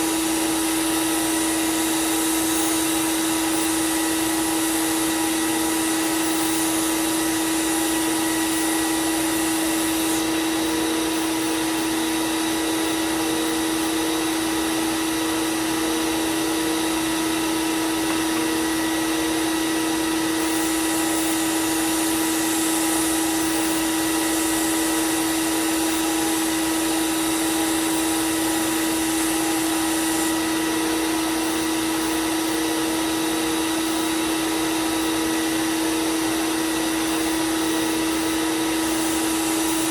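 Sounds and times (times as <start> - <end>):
belt sander motor hum: 0.0 - 39.9.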